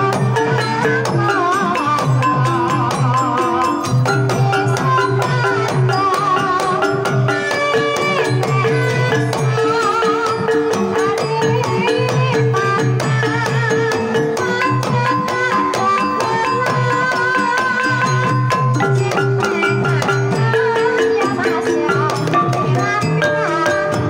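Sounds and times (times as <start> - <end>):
hand drum beat: 0.0 - 24.0
wavering melody: 0.0 - 24.0.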